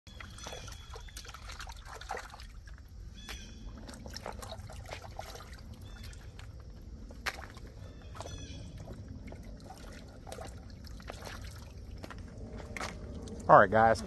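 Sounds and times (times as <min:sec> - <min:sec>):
water sloshing and trickling: 0:00.1 - 0:14.0.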